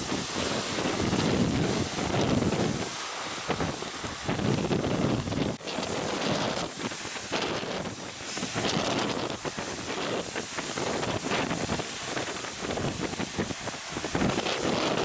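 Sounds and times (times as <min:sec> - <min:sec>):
heavy surf breaking: 0:00.0 - 0:15.0
storm wind buffeting microphone: 0:00.0 - 0:15.0.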